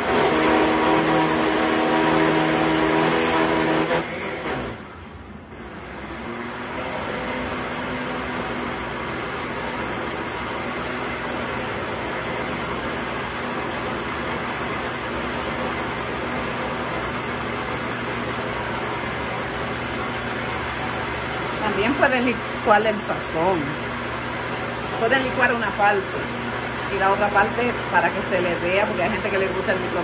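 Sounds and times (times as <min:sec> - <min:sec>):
electric blender motor running: 0:00.0 - 0:30.0.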